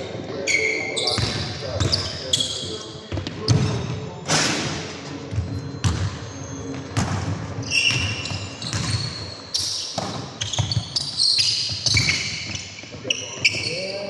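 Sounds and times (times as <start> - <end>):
shoes squeaking on floor: 0.4 - 4.0, 5.3 - 14.0.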